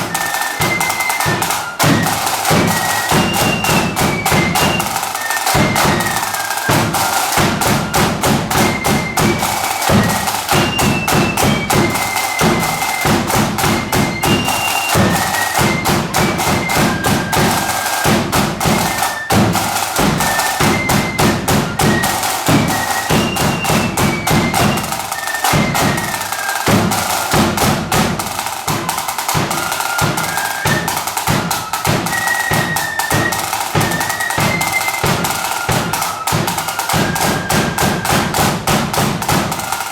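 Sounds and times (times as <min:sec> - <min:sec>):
flutes playing melody: 0:00.0 - 0:39.9
rapid snare drumming: 0:00.0 - 0:39.9.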